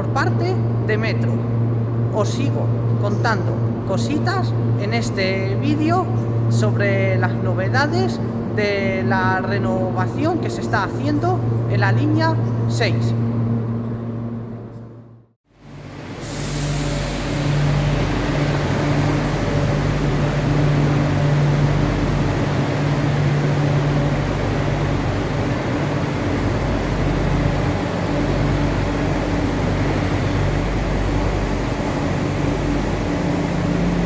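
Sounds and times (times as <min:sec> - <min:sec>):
low electrical hum: 0:00.0 - 0:34.0
train rumbling in station: 0:00.0 - 0:34.0.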